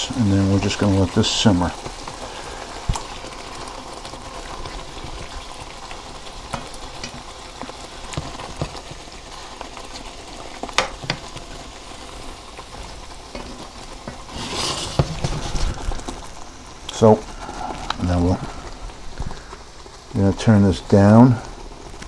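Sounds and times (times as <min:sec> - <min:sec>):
sauce sizzling in a pan: 0:00.0 - 0:22.0.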